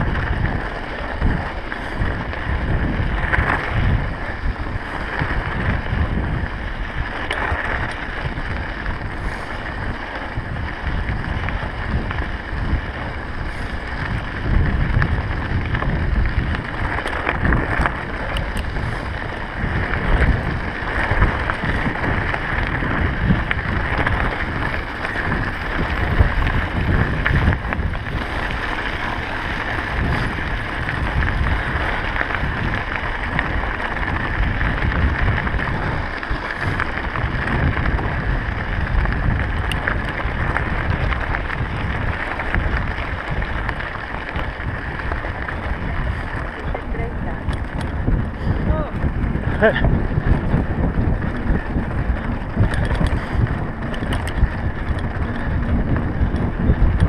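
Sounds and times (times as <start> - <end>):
bike tyres crunching on gravel: 0.0 - 57.0
wind buffeting microphone: 0.0 - 57.0.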